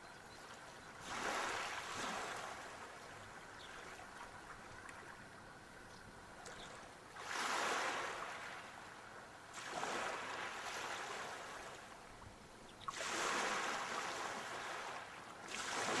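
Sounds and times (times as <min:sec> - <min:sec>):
sea waves breaking on shore: 0:00.6 - 0:05.2, 0:06.4 - 0:16.0.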